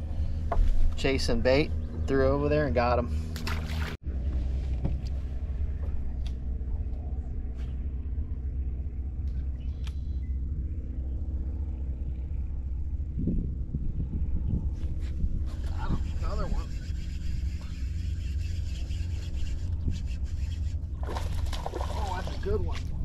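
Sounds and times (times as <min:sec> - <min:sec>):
boat motor rumbling: 0:00.0 - 0:23.0.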